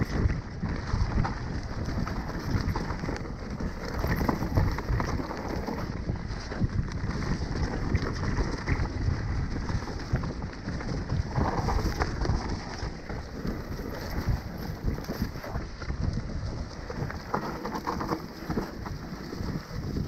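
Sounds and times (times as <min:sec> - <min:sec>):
bike rattling over bumps: 0:00.0 - 0:20.0
bike tyres rumbling on dirt: 0:00.0 - 0:20.0
wind rushing on microphone: 0:00.0 - 0:20.0.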